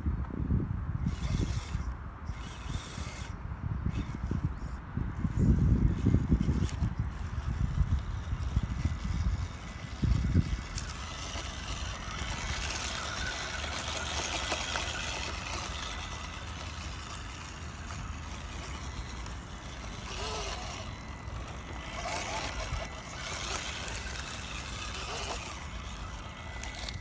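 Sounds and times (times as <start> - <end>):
rc truck motors whirring: 1.0 - 27.0.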